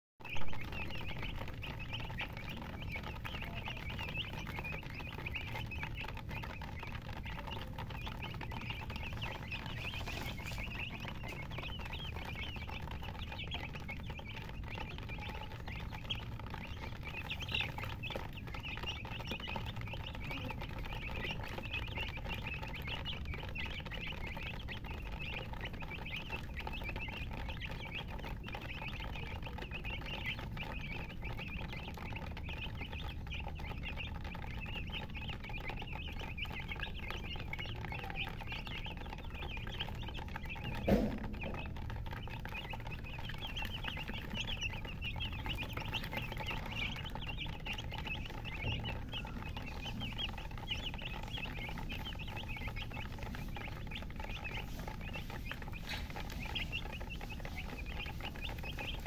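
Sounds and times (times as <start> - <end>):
chicks peeping: 0.2 - 59.0.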